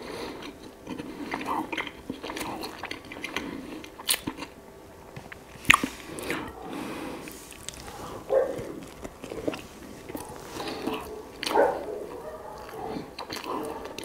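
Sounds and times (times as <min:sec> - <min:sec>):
chewing and biting bread: 0:00.0 - 0:14.0
wet mouth noises: 0:00.3 - 0:04.6, 0:05.2 - 0:14.0.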